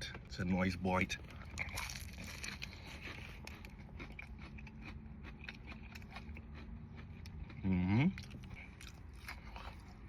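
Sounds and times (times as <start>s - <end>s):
chewing crispy chicken: 1.2s - 10.0s.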